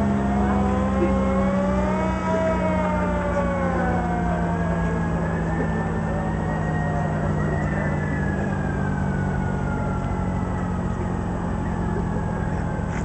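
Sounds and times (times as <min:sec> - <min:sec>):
air raid siren winding down: 0:00.0 - 0:13.0.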